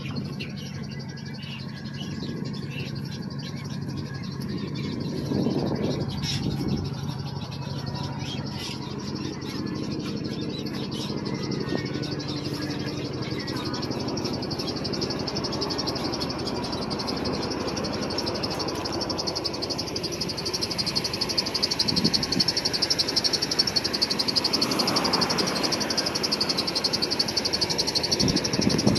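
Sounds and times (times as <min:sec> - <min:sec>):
frogs and insects trilling: 0:00.0 - 0:28.9
low steady hum: 0:00.0 - 0:28.9.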